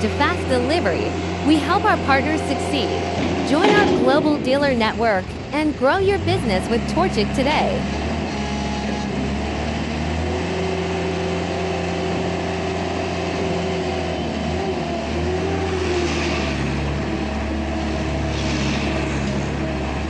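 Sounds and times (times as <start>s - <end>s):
skid steer loader engine running: 0.0s - 20.0s.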